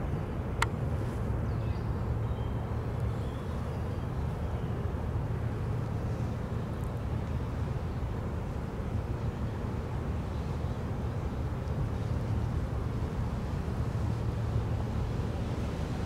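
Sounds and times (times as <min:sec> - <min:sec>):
ship engine rumble: 0:00.0 - 0:16.0.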